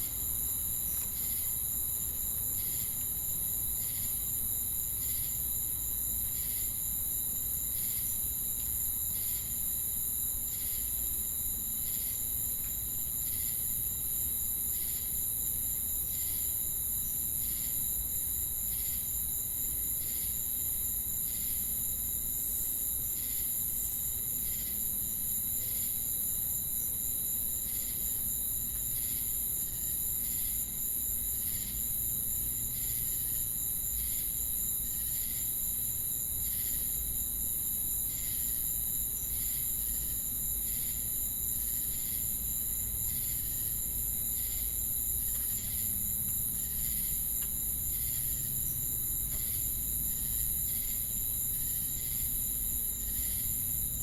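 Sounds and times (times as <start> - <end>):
cricket chirp: 0.0 - 54.0.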